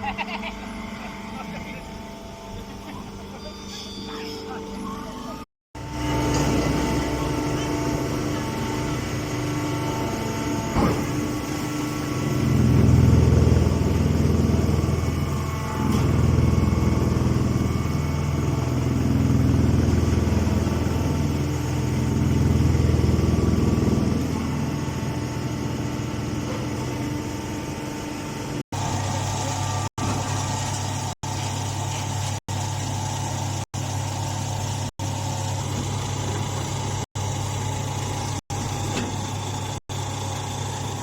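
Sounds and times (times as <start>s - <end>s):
engine running: 4.4s - 41.0s.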